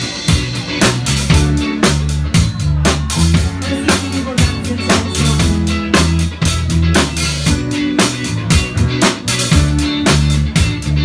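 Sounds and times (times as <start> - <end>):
bass guitar: 0.0 - 11.0
drum kit beat: 0.0 - 11.0
electric guitar: 0.0 - 11.0.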